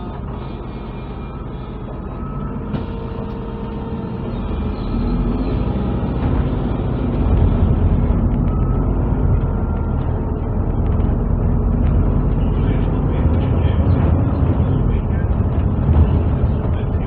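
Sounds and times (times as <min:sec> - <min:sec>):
bus engine rumble: 0:00.0 - 0:17.0
road noise: 0:00.0 - 0:17.0.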